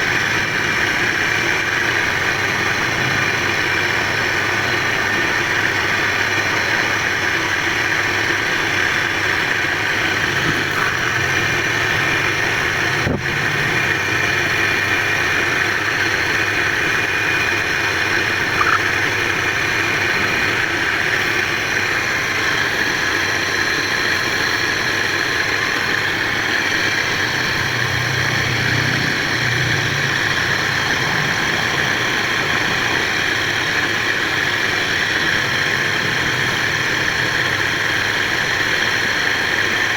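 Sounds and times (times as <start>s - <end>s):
wood lathe whirring: 0.0s - 39.9s.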